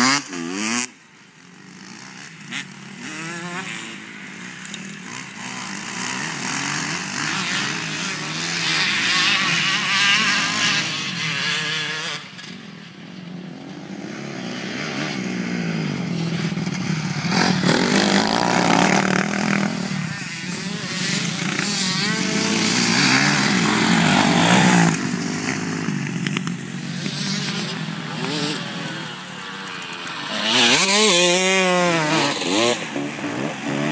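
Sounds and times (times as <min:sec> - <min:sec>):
motocross bike engines revving: 0:00.0 - 0:33.9.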